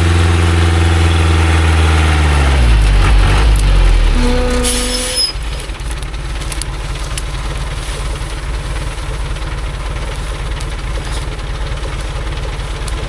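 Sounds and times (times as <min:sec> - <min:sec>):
truck engine idling low: 0:00.0 - 0:13.0.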